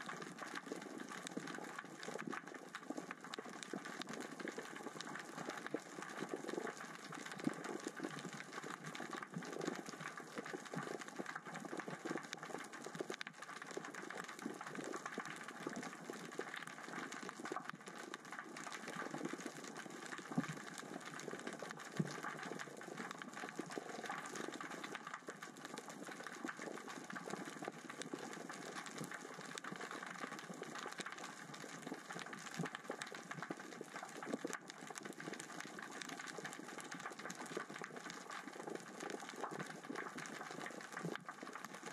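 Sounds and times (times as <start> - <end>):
rocks rolling underwater: 0.0 - 41.9.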